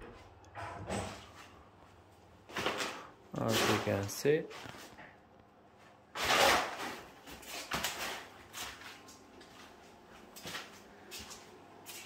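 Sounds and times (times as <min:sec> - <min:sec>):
footsteps rustling on plastic sheets: 0:01.2 - 0:05.1, 0:05.8 - 0:12.0.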